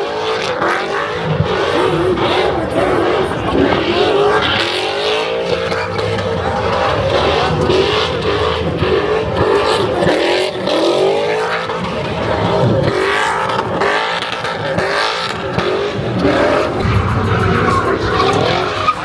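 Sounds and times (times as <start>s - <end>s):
car engine revving hard: 0.0s - 19.0s
constant rushing noise: 0.0s - 19.0s.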